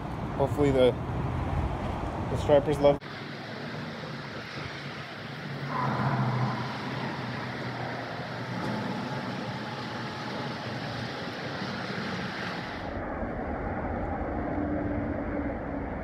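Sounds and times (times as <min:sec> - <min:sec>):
road traffic on bridge: 0:00.0 - 0:16.0
vehicle passing: 0:00.0 - 0:16.0.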